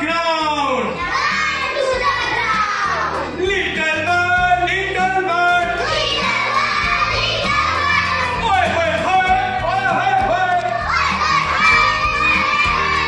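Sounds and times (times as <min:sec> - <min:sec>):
musical backing: 0:00.0 - 0:13.0
young children singing: 0:00.5 - 0:03.9, 0:04.5 - 0:13.0.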